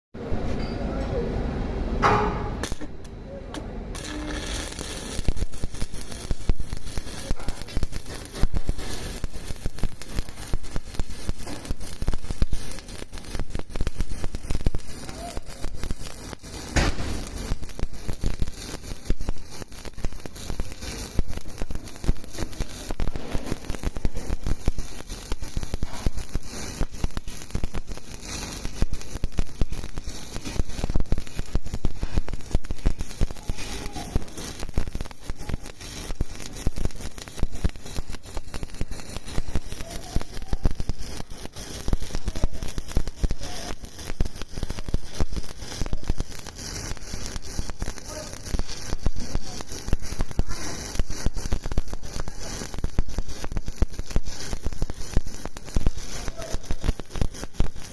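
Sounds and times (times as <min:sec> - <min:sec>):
welding arc crackling: 0:02.0 - 0:57.9.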